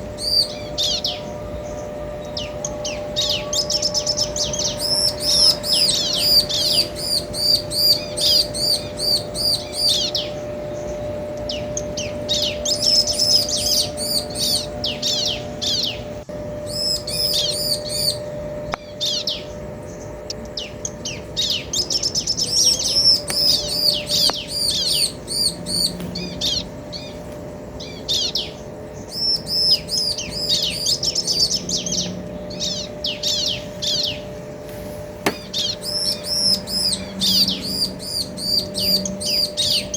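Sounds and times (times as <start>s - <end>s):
birds chirping calls: 0.0s - 39.9s.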